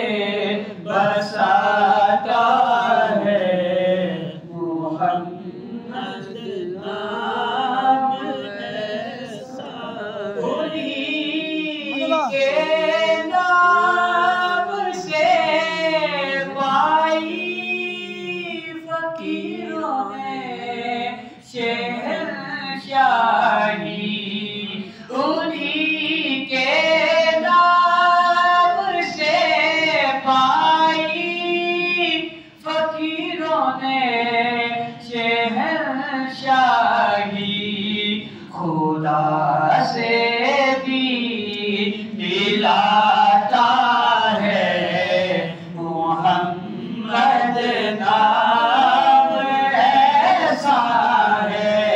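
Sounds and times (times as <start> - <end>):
man singing unaccompanied: 6.8 - 51.9.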